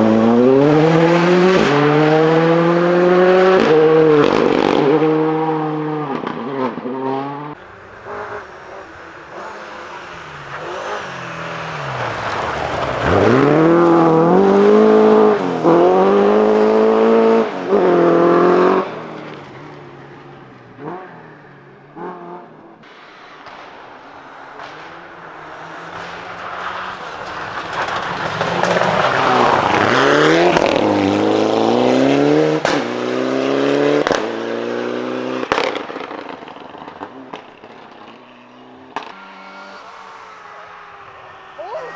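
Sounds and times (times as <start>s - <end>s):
rally cars passing at full throttle: 0.0s - 41.9s.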